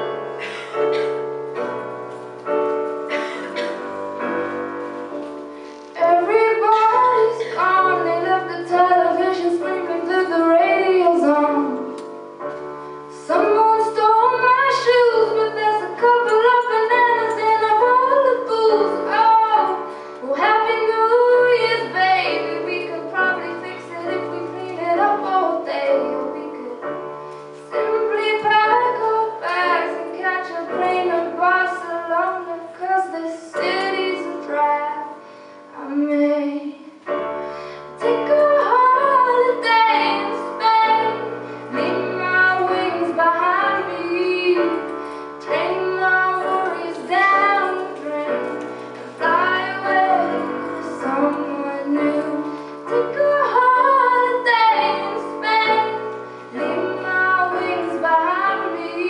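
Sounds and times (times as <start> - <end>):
sustained piano accompaniment: 0.0 - 59.0
young woman singing: 5.9 - 12.2, 13.1 - 37.0, 38.0 - 59.0.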